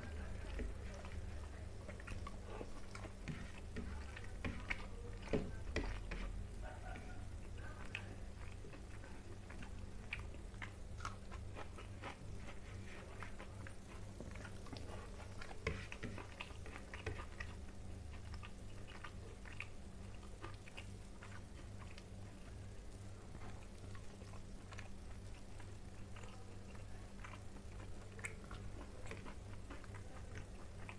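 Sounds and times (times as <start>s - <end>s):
chewing: 0.0s - 30.9s
steady low hum: 0.0s - 30.9s.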